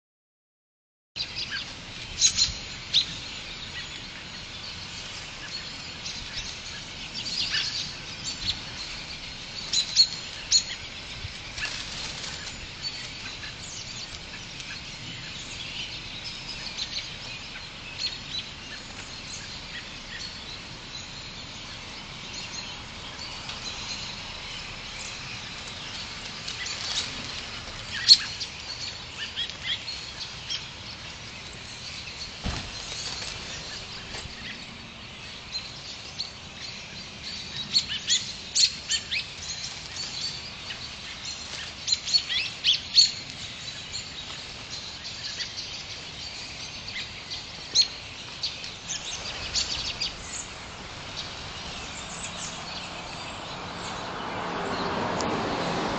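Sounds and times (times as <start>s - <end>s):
sharp bird calls: 1.2s - 55.9s
small birds chirping: 1.2s - 55.9s
background hiss: 1.3s - 55.9s.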